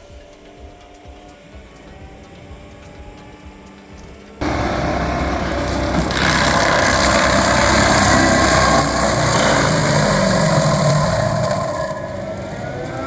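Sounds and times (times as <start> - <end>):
forestry mulcher and diesel engine: 0.8 - 13.0.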